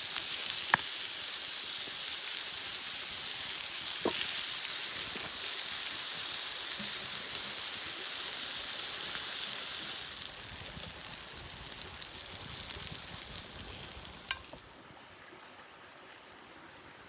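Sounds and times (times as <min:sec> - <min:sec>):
food sizzling in a pan: 0:00.0 - 0:14.8.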